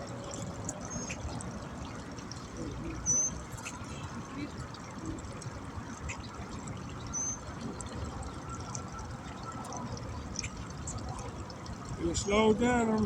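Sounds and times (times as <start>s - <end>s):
water lapping and trickling: 0.0s - 13.0s.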